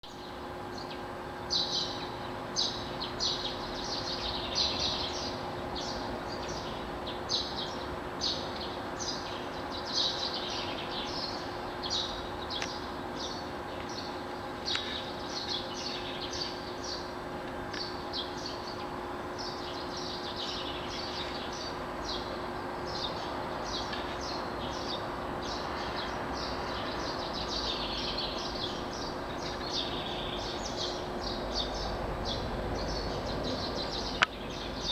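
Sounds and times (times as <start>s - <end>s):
songbirds chirping: 0.0s - 34.9s
steady low hum: 0.0s - 34.9s.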